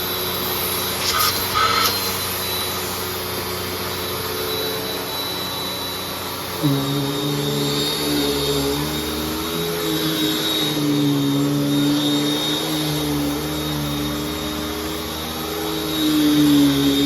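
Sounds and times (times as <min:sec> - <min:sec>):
vacuum cleaner motor humming: 0:00.0 - 0:17.0.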